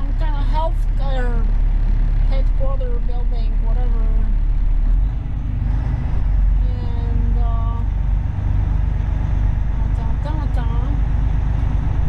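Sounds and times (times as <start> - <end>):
diesel truck engine rumble: 0.0 - 12.0
road noise: 0.0 - 12.0.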